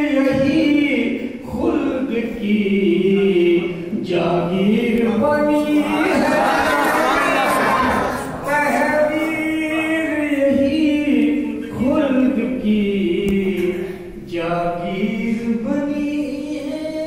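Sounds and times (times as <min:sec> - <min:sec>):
man singing unaccompanied: 0:00.0 - 0:06.6, 0:08.4 - 0:17.0.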